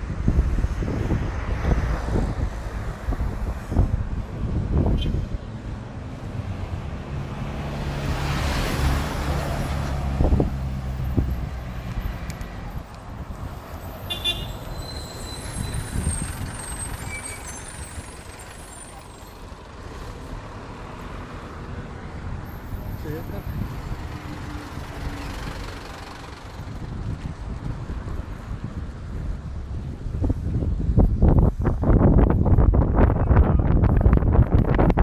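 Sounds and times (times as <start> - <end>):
motor vehicle engine close by: 0.0 - 35.0
road traffic: 0.0 - 35.0.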